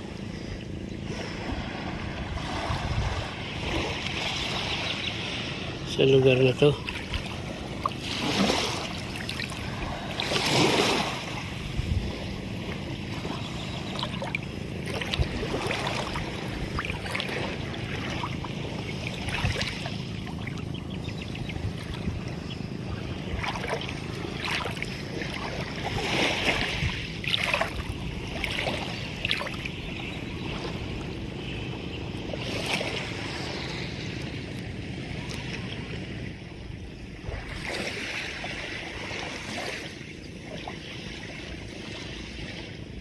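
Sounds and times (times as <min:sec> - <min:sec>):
steady low rumble: 0:00.0 - 0:37.7
seawater splashing and bubbling: 0:00.0 - 0:43.0.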